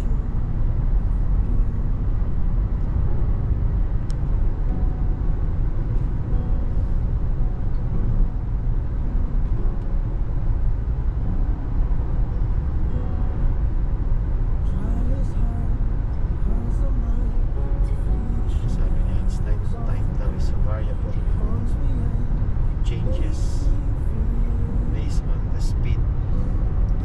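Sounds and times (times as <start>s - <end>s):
car cabin road and engine rumble: 0.0s - 27.0s.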